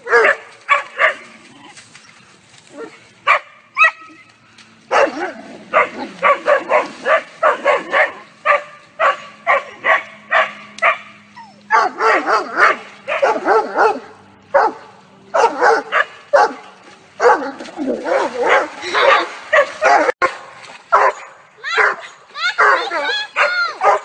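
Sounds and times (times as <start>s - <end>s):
dog barking: 0.0s - 1.3s, 2.8s - 4.1s, 4.9s - 16.6s, 17.2s - 24.0s.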